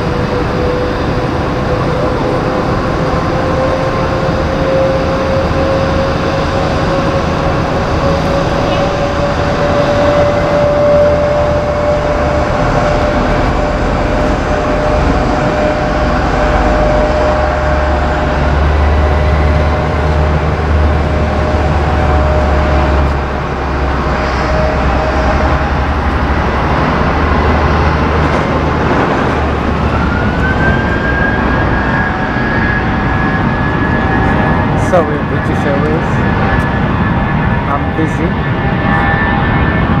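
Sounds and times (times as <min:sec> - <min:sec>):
jet engine rumble with whine: 0:00.0 - 0:40.0
rising jet engine whine: 0:00.0 - 0:40.0.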